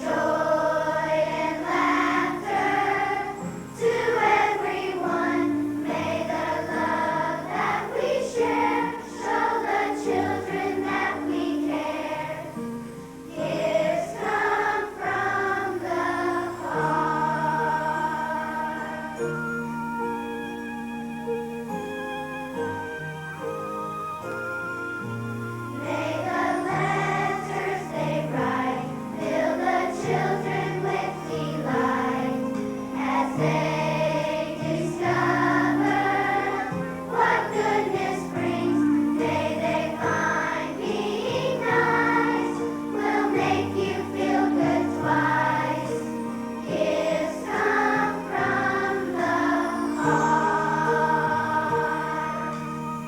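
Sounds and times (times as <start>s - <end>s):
children's choir singing: 0.0s - 20.3s, 25.4s - 53.0s
instrumental accompaniment: 0.0s - 53.0s.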